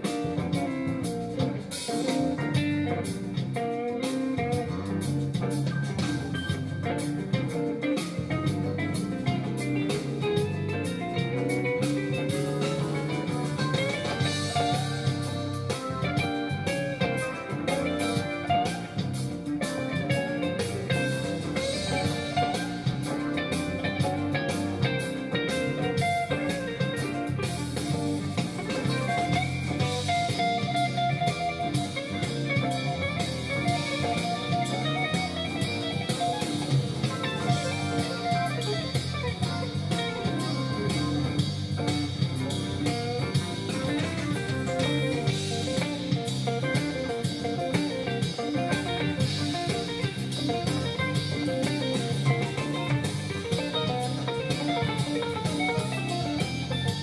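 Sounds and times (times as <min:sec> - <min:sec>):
bass: 0:00.0 - 0:57.0
drum kit: 0:00.0 - 0:57.0
electric guitar solo: 0:00.0 - 0:57.0.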